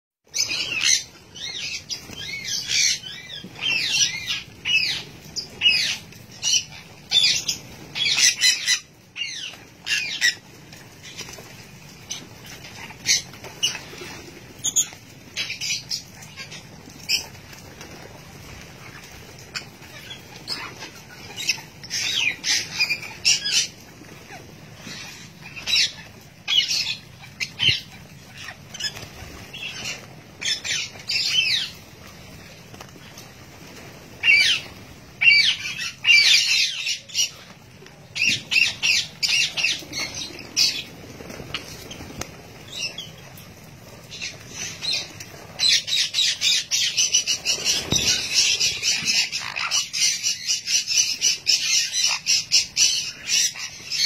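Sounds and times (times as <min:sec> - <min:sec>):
parrots squawking and chirping: 0:00.3 - 0:54.0.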